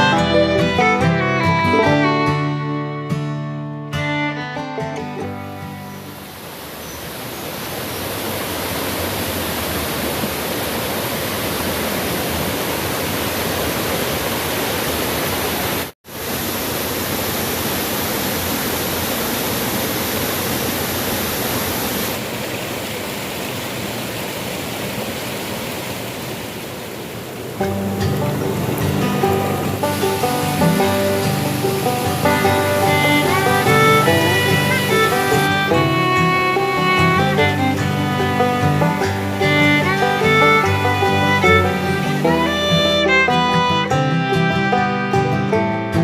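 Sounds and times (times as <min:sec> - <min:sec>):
waterfall rushing: 0:05.0 - 0:45.4.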